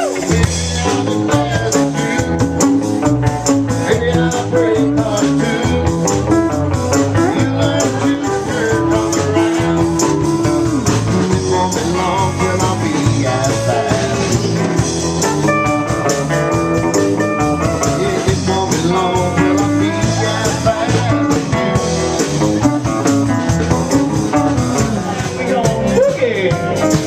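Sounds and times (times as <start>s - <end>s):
blues rock band with guitar: 0.0s - 27.0s.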